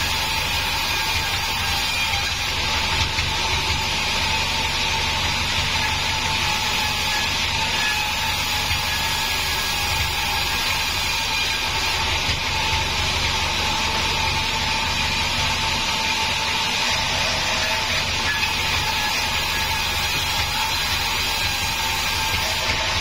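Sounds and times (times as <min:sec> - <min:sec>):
band saw ripping timber: 0:00.0 - 0:23.0.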